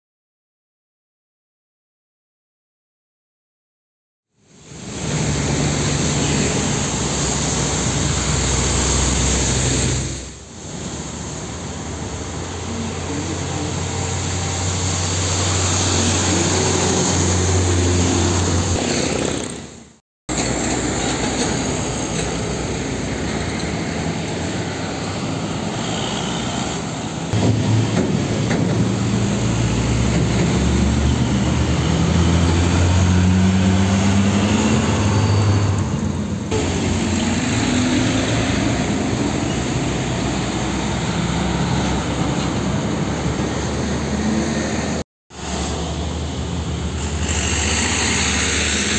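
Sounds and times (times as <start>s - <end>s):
heavy diesel trucks driving past: 4.5s - 48.9s
tyre and road noise: 4.5s - 48.9s.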